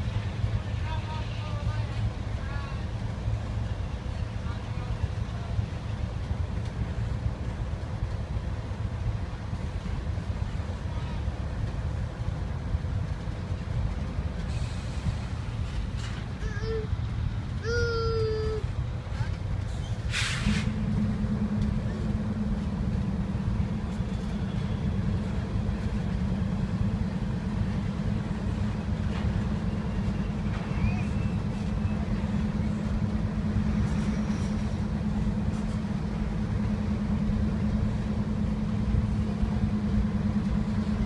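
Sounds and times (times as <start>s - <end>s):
diesel locomotive engine drone: 0.0s - 41.0s
freight train rumbling past: 0.0s - 41.0s.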